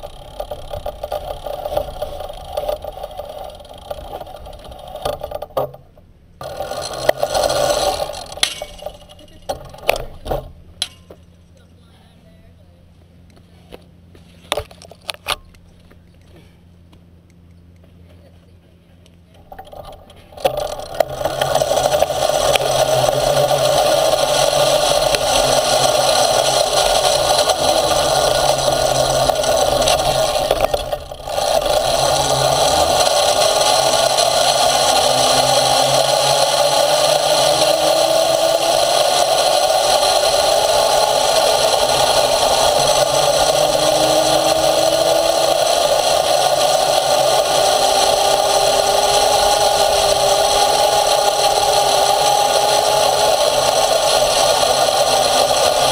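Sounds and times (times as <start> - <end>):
motorized cart driving: 0.0 - 11.9, 17.6 - 55.9
wheels rattling over pavement: 0.0 - 12.5, 18.1 - 55.9.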